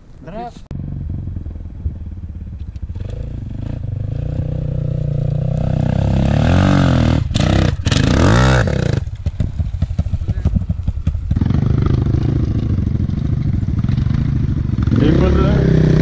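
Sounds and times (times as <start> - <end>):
dirt bike engine accelerating: 0.7 - 16.0.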